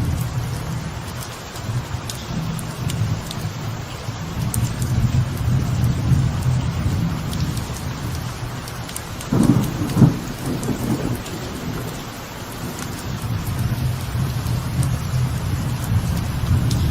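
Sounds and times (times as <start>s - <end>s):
light rain on a veranda: 0.0s - 16.9s
thunder rumbling: 0.0s - 16.9s.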